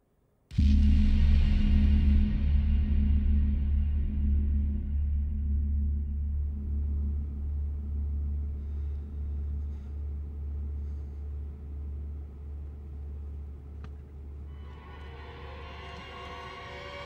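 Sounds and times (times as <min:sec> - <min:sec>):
deep rumbling drone music: 0:00.6 - 0:17.0.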